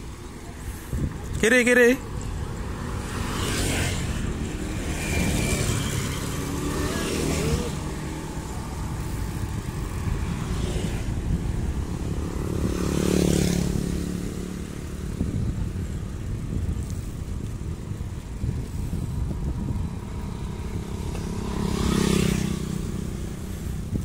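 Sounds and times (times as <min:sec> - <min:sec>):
bicycle tyres on concrete: 0:00.0 - 0:24.0
motorcycles passing: 0:00.0 - 0:24.0
wind on microphone: 0:00.0 - 0:24.0.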